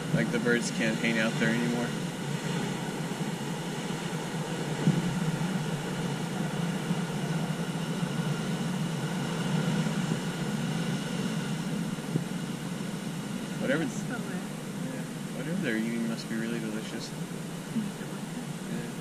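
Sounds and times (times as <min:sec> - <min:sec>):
ocean surf breaking on rocks: 0:00.0 - 0:19.0.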